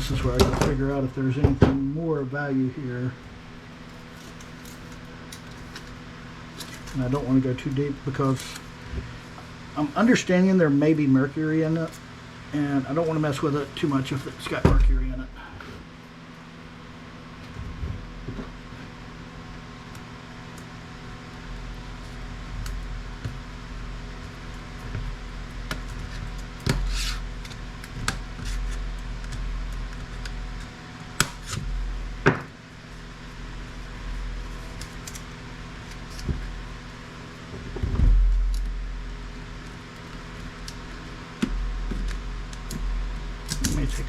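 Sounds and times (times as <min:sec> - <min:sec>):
steady fan hum: 0:00.0 - 0:44.0.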